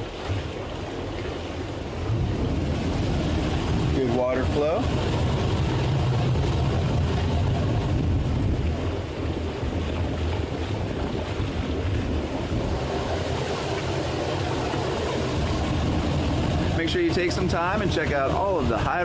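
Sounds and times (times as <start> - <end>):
boat engines idling: 0.0 - 19.0
exhaust water discharging: 0.0 - 19.0.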